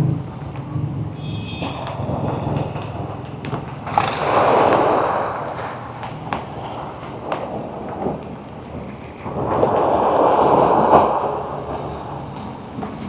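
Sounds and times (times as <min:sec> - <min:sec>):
storm wind buffeting microphone: 0:01.8 - 0:13.0.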